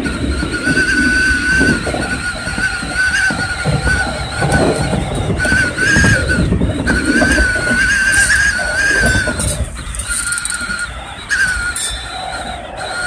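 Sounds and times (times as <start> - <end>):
high wavering train whine: 0.0 - 13.0
train wheels rumbling: 0.0 - 13.0.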